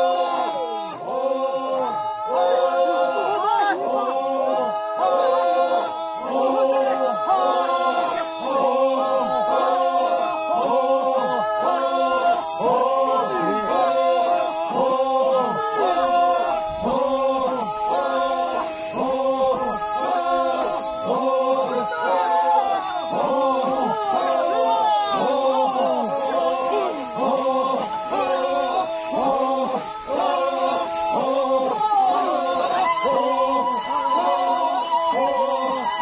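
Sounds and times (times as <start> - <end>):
group chanting in unison: 0.0 - 36.0.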